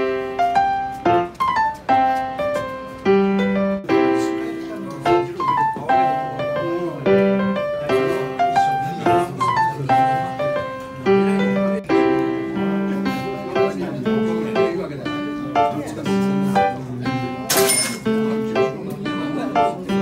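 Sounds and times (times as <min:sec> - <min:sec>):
solo piano melody: 0:00.0 - 0:20.0.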